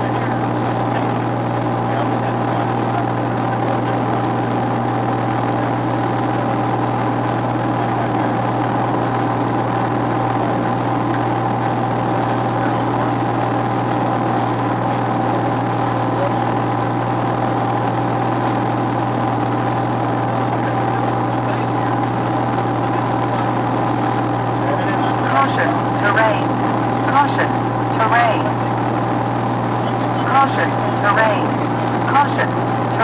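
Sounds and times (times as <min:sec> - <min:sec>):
propeller aircraft engine hum: 0:00.0 - 0:33.0.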